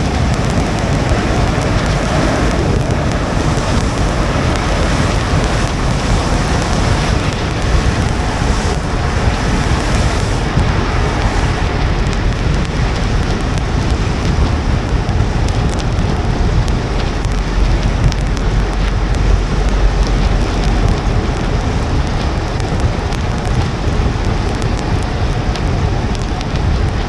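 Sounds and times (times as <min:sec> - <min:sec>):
rain and spray hiss: 0:00.0 - 0:27.0
tyre noise on wet road: 0:00.0 - 0:27.0.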